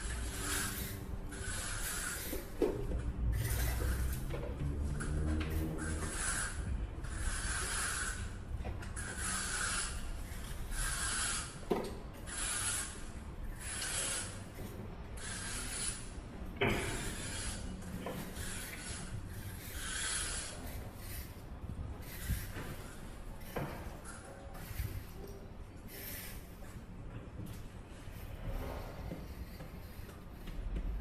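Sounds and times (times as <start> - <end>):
rubbing or scraping strokes: 0.0 - 25.3, 28.0 - 31.0.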